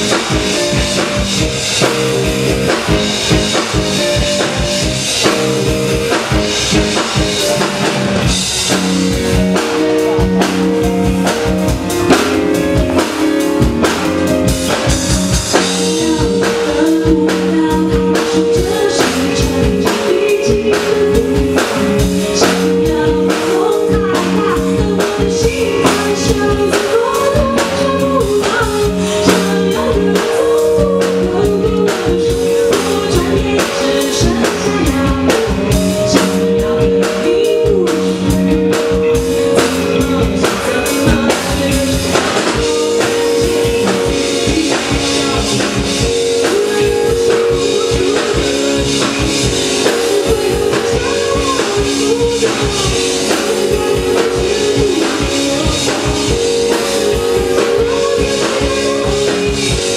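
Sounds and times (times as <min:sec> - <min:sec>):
drum kit beat: 0:00.0 - 0:59.9
live rock band playing: 0:00.0 - 0:59.9
person singing: 0:00.0 - 0:59.9.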